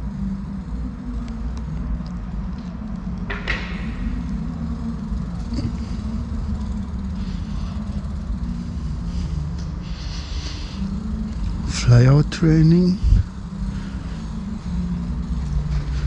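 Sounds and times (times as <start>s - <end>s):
bike rolling low rumble: 0.0s - 16.0s.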